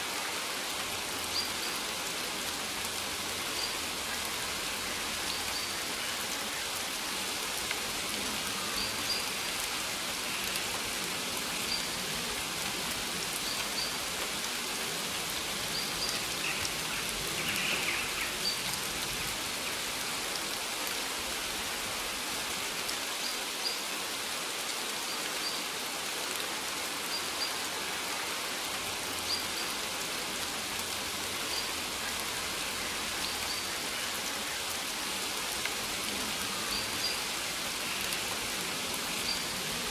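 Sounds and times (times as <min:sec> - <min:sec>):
rain on plants: 0:00.0 - 0:39.9.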